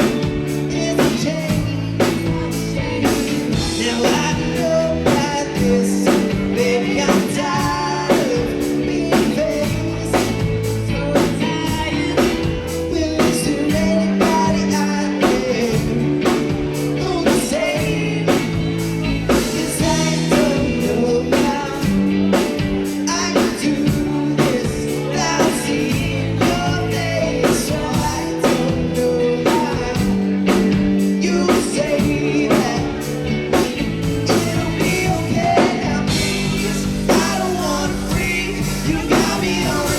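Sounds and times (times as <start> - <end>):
bass: 0.0 - 39.9
drums steady beat: 0.0 - 39.9
guitar: 0.0 - 39.9
person singing: 0.0 - 39.9.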